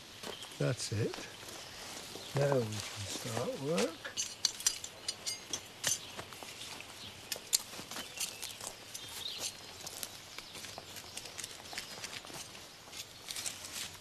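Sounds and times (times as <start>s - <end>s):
hand tool scraping soil: 1.7s - 14.0s
crumbling earth and stones clicking: 2.2s - 14.0s.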